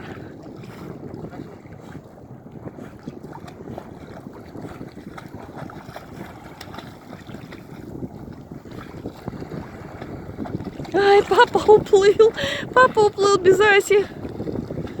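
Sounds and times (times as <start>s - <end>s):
sea water splashing and lapping: 0.0s - 15.0s
wind buffeting microphone: 0.0s - 15.0s.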